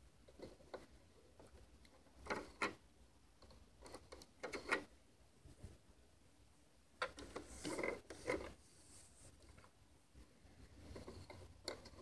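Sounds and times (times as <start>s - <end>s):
faint clicks and rustles of handling: 0.0s - 12.0s.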